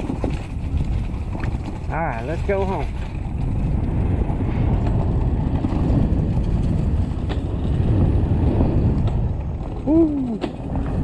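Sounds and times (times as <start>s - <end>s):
wind and tyres on dirt: 0.0s - 11.0s.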